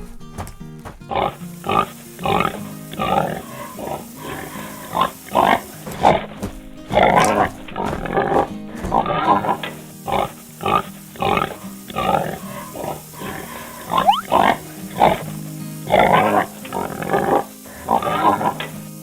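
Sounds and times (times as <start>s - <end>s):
pig grunting: 0.0s - 19.0s.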